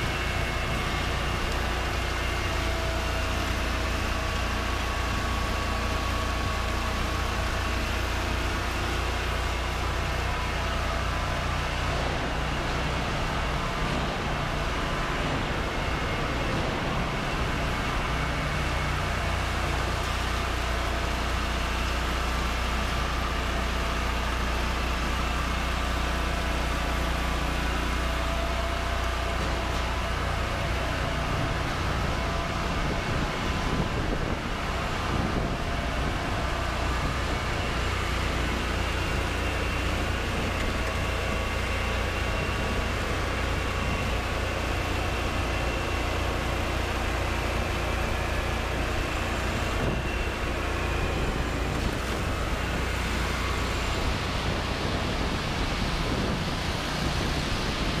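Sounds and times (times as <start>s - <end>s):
power trowel engine humming: 0.0s - 58.0s.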